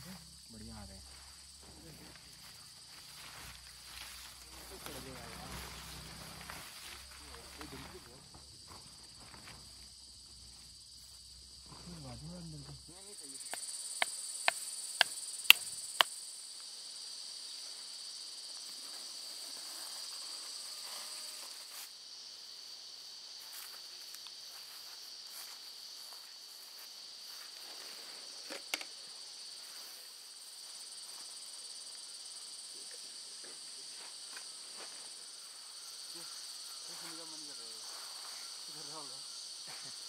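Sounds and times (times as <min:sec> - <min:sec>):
insect chorus droning: 0:00.0 - 0:40.0.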